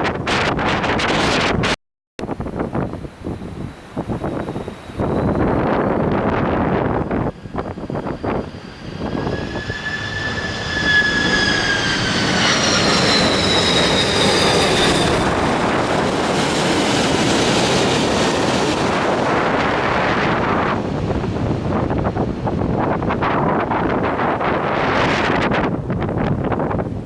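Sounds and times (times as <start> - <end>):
high whining jet tones: 0.0 - 26.8
jet airliner engine roar: 0.0 - 27.0.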